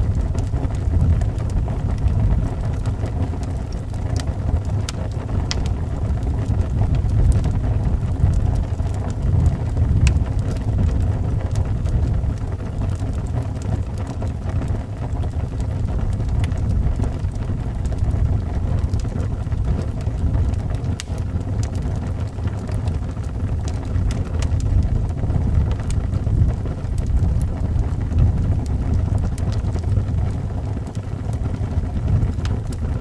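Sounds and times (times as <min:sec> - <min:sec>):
howling wind: 0:00.0 - 0:33.0
wood fire crackling and popping: 0:00.0 - 0:33.0.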